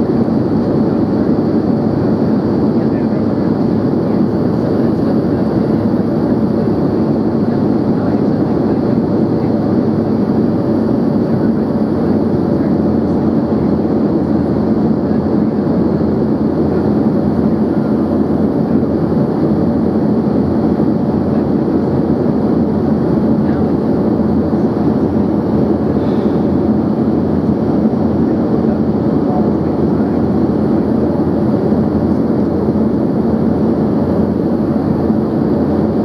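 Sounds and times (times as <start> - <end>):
airflow rushing in jet cabin: 0.0 - 36.0
jet engines droning: 0.0 - 36.0.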